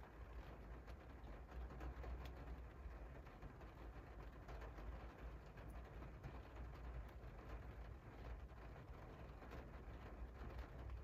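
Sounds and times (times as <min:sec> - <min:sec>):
light rain on a window: 0:00.0 - 0:11.0.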